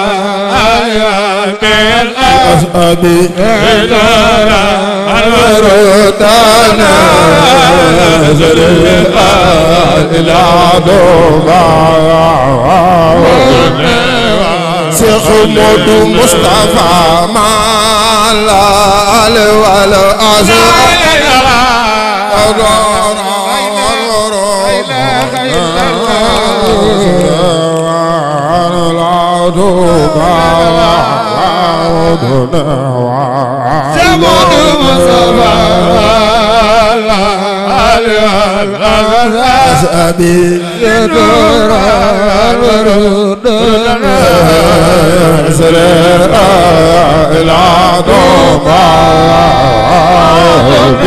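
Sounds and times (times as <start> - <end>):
man chanting over sound system: 0.0 - 51.0.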